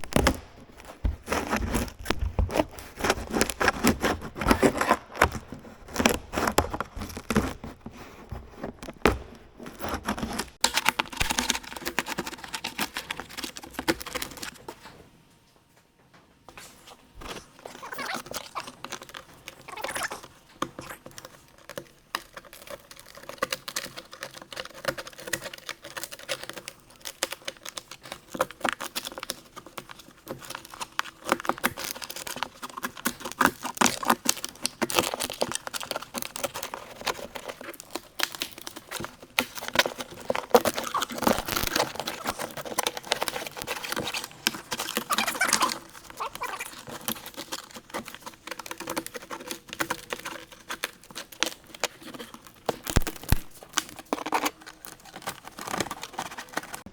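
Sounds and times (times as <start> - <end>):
tape and plastic crinkling: 0.0 - 15.5, 16.5 - 56.9.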